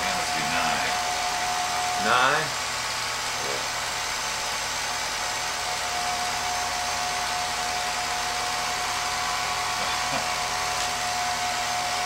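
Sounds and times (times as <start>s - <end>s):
film projector whirring: 0.0s - 12.0s.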